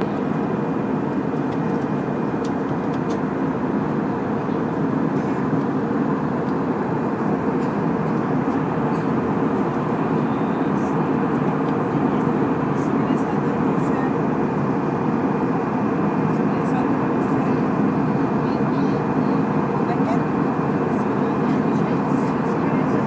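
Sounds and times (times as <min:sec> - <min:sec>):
city noise: 0:00.0 - 0:23.0
turboprop airliner drone: 0:00.0 - 0:23.0.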